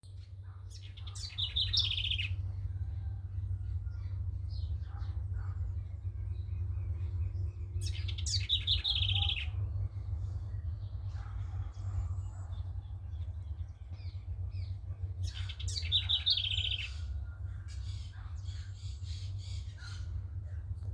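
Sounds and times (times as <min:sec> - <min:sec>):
steady low rumble: 0:00.0 - 0:20.9
faint bird chirps: 0:00.1 - 0:20.5
songbird trilling: 0:00.7 - 0:20.3.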